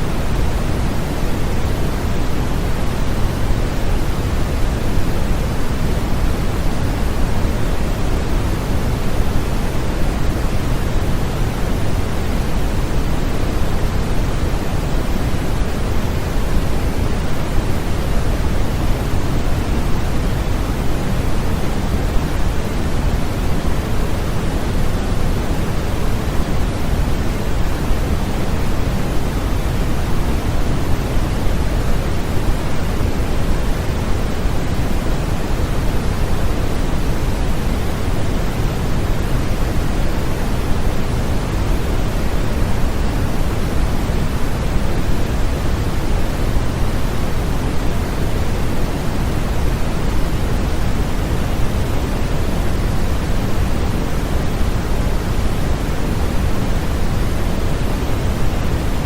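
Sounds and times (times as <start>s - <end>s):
pink noise: 0.0s - 59.0s.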